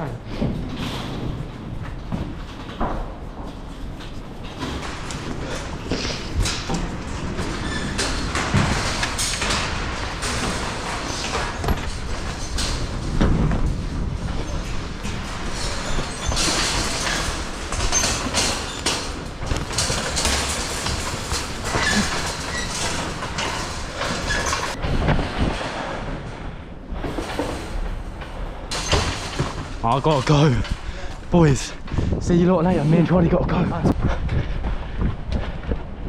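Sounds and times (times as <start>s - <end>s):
train rumbling and rattling: 0.0s - 36.0s.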